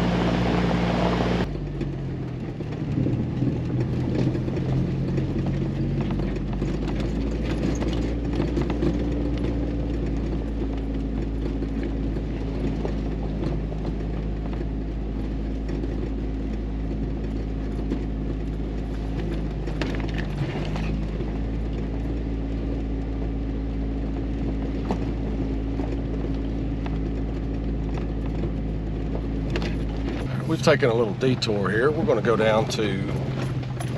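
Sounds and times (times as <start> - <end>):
engine hum: 0.0 - 33.9
knocks and rattles: 1.5 - 33.9.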